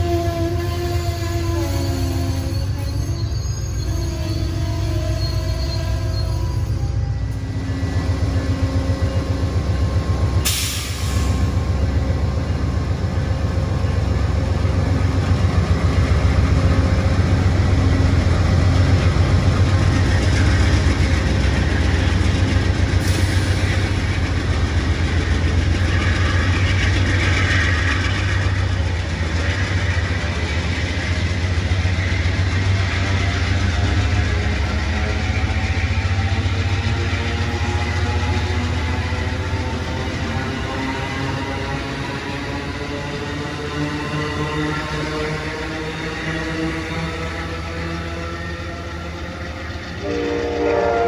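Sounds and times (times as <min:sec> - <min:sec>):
diesel locomotive engine rumble: 0:00.0 - 0:51.0
train cars rolling: 0:00.0 - 0:51.0.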